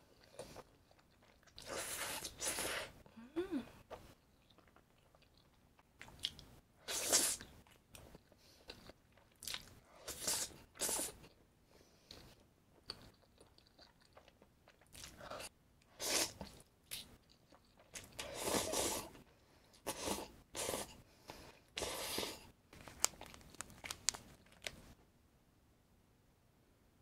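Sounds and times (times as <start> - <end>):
person chewing crunchy food: 0.0 - 2.9, 3.8 - 11.4, 12.1 - 15.5, 16.1 - 20.8, 21.8 - 25.0.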